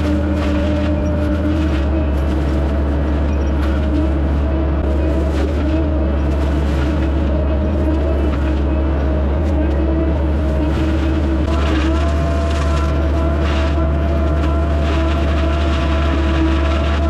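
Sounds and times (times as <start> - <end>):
mulcher head spinning hum: 0.0 - 17.0
track loader engine drone: 0.0 - 17.0.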